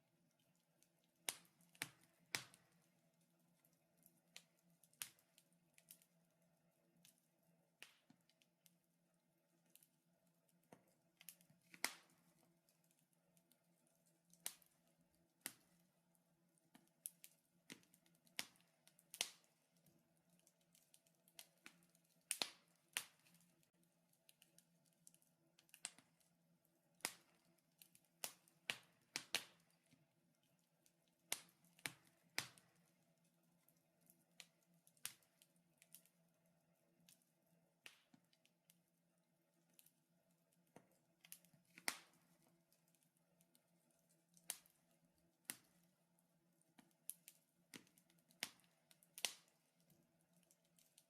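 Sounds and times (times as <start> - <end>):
wood fire crackling: 0.1 - 51.0.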